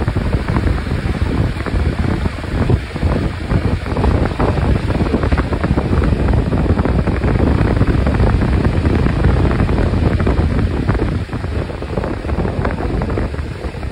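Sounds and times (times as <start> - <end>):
motorcycle engine: 0.0 - 13.9
wind rushing over microphone: 0.0 - 13.9.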